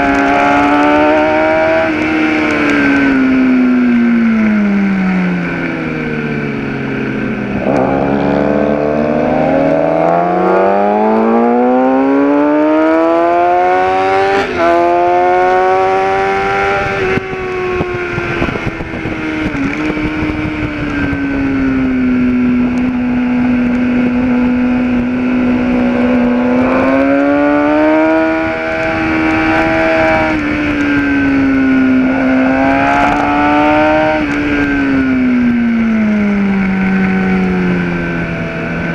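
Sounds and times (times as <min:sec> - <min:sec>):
motorcycle engine revving: 0:00.0 - 0:38.9
rushing wind: 0:00.0 - 0:38.9.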